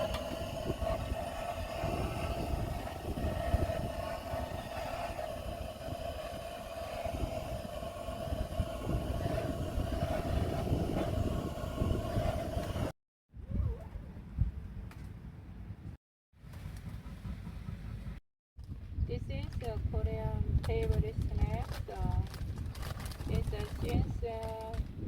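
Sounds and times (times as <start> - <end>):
wind on microphone: 0.0 - 14.9, 18.6 - 25.0.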